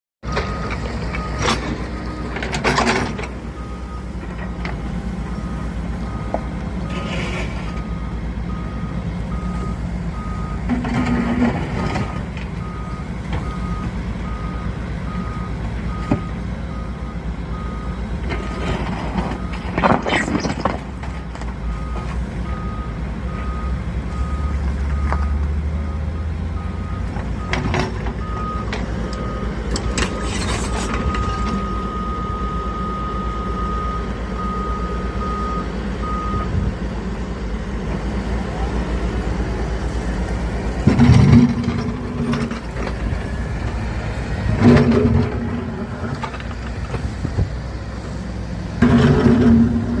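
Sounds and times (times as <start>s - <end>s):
excavator diesel engine humming: 0.2s - 50.0s.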